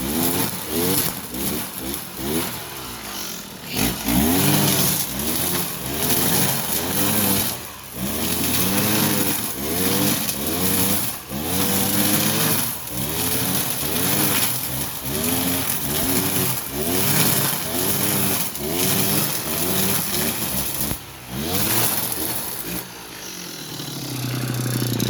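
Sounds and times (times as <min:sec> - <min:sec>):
brush cutter engine revving: 0:00.0 - 0:25.0.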